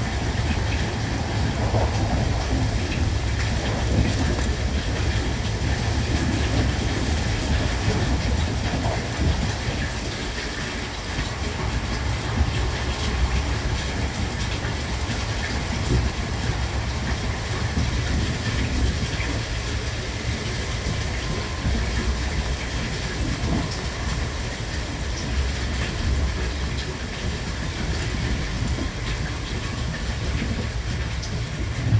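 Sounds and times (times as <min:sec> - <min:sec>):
train rumbling: 0:00.0 - 0:31.9
wheels clattering on rails: 0:00.0 - 0:31.9.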